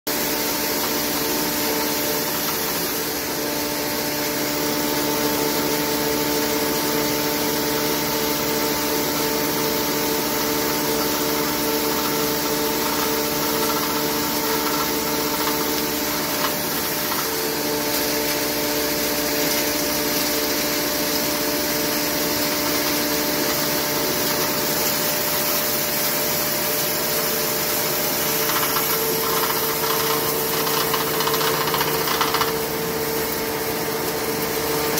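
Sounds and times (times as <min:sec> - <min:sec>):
hammer mill humming: 0:00.1 - 0:34.9.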